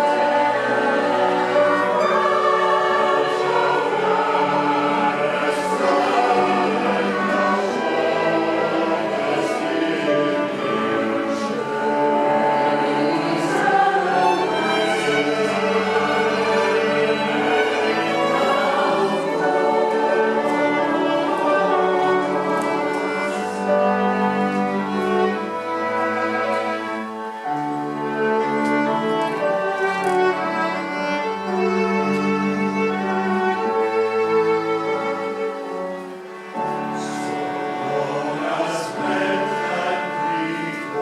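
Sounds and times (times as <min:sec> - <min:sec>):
bowed strings sustained chords: 0:00.0 - 0:41.0
choir singing: 0:00.0 - 0:41.0.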